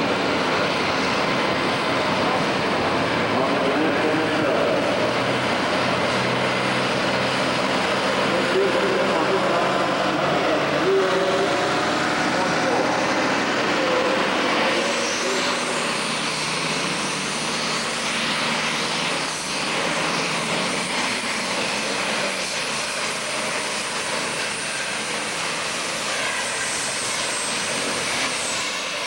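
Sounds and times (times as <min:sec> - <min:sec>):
diesel engine roaring: 0:00.0 - 0:29.0
turbo whine: 0:00.0 - 0:29.0.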